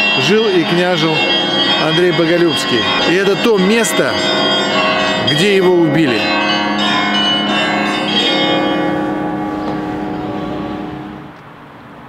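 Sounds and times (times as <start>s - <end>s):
church bells ringing: 0.0s - 11.4s.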